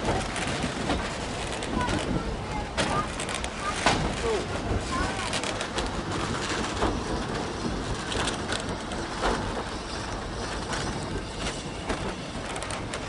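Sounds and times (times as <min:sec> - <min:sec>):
train wheels rumbling and rattling: 0:00.0 - 0:13.0.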